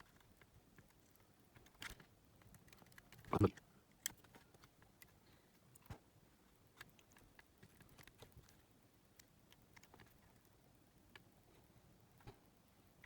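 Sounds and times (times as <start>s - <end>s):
small parts and tools clicking: 0.0s - 6.0s, 6.7s - 11.3s.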